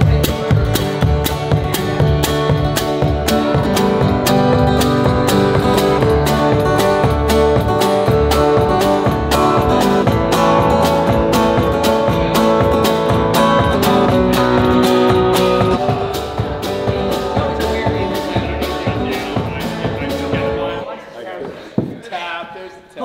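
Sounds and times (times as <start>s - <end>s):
strummed acoustic guitar music: 0.0s - 20.8s.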